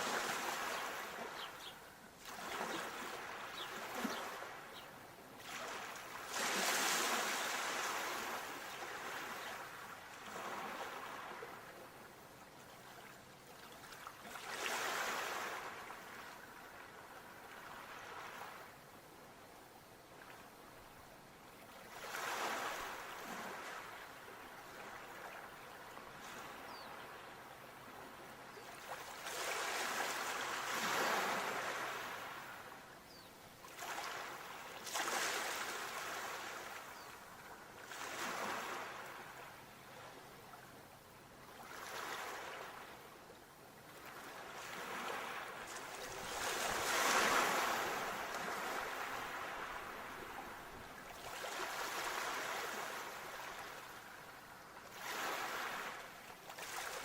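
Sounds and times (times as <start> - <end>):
sea waves breaking on shore: 0.0 - 11.7, 13.6 - 18.8, 21.8 - 27.1, 28.6 - 32.8, 33.6 - 40.6, 41.5 - 43.1, 43.8 - 57.0.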